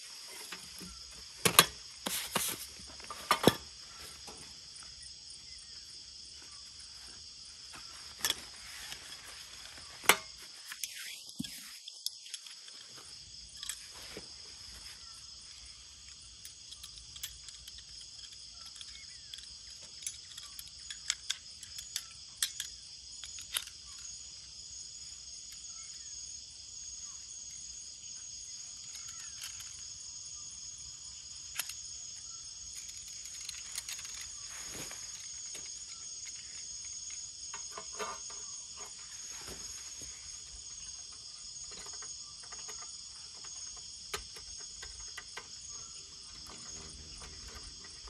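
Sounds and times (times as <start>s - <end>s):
forest insects chorus: 0.0s - 48.0s.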